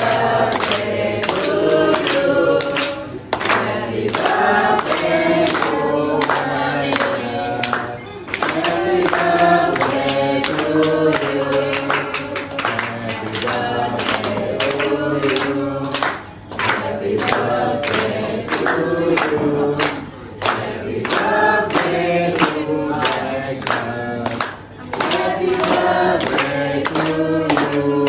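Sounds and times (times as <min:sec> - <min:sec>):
group of people singing: 0:00.0 - 0:28.0
hands clapping on the beat: 0:00.0 - 0:28.0.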